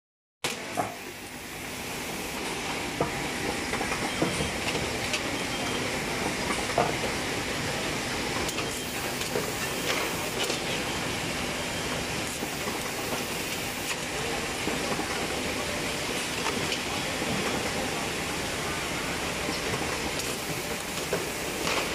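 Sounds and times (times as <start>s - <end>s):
machine hiss and hum: 0.5s - 21.9s.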